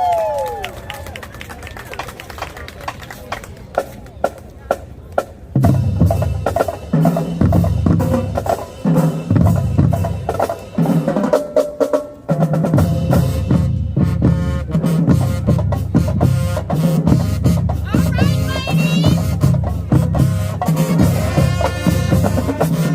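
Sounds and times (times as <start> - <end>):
bass drums and snares: 3.8 - 22.9.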